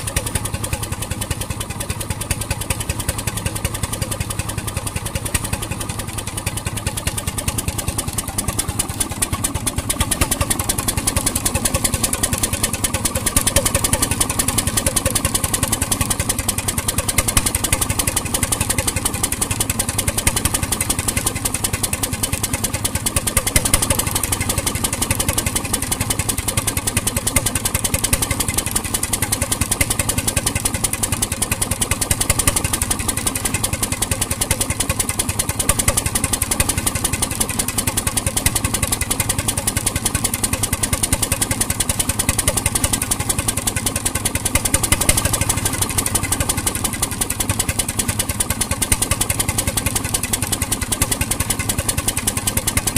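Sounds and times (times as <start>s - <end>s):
marine engine running: 0.0s - 52.9s.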